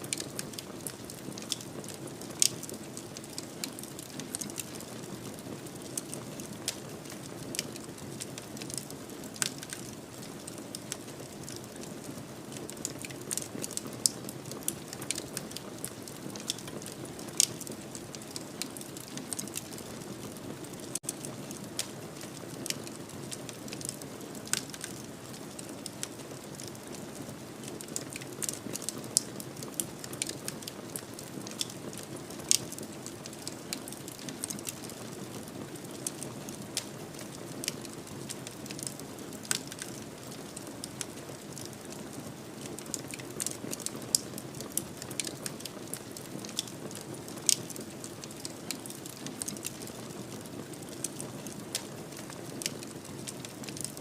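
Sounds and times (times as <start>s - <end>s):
fire popping and snapping: 0.0s - 54.0s
wood fire crackling: 0.0s - 54.0s.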